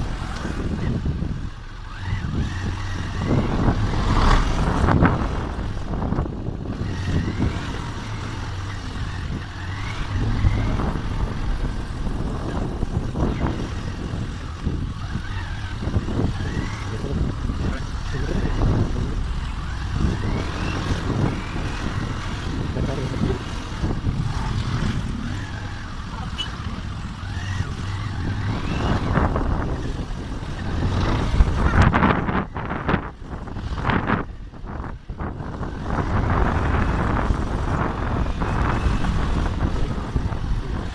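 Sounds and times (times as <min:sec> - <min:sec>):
road noise: 0:00.0 - 0:40.9
vehicle engines droning: 0:00.0 - 0:40.9.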